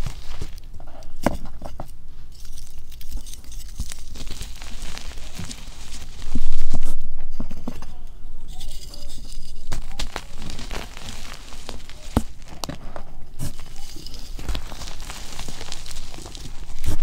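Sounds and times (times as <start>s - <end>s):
hands crumbling chalk: 0.0s - 7.9s, 8.5s - 17.0s.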